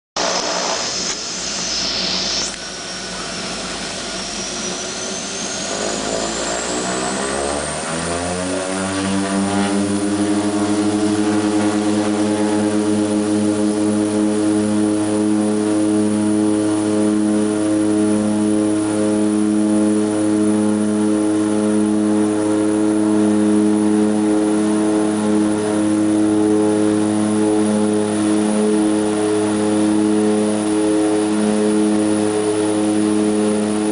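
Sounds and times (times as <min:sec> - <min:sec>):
propeller drone: 0:00.2 - 0:33.9
turbine whine: 0:00.2 - 0:33.9.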